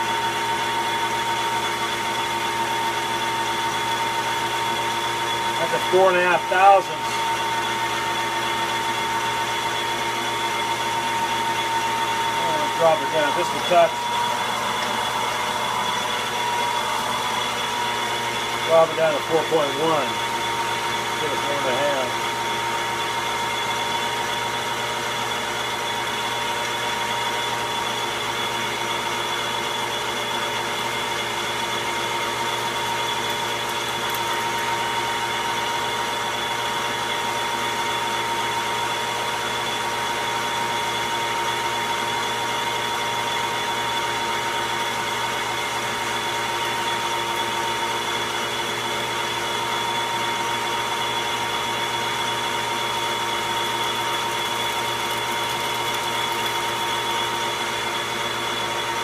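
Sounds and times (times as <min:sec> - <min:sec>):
metal lathe whine: 0:00.0 - 0:59.0.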